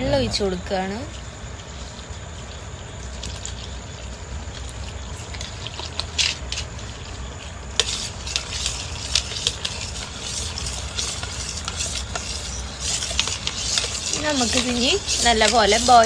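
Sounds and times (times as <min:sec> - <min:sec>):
low steady hum: 0:00.0 - 0:16.0
metal spoon stirring in pot: 0:00.4 - 0:16.0.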